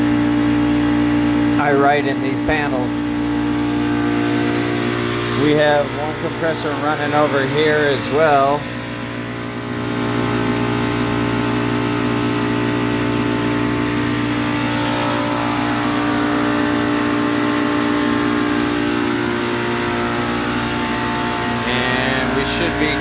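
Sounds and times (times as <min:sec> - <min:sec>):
chiller compressor humming: 0:00.0 - 0:23.0.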